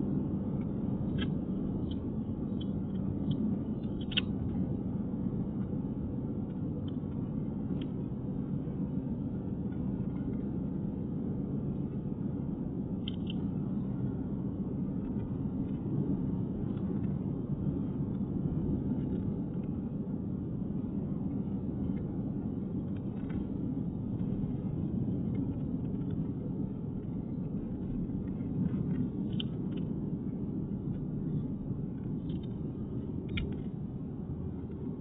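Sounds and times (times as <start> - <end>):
car engine and tyre noise: 0.0 - 35.0.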